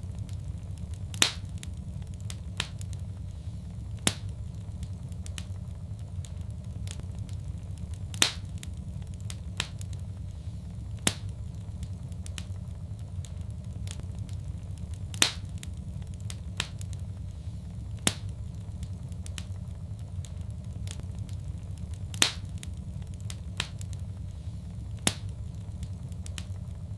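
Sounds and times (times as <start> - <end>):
sharp fire pops: 0.0 - 26.9
wood fire crackling: 0.0 - 26.9.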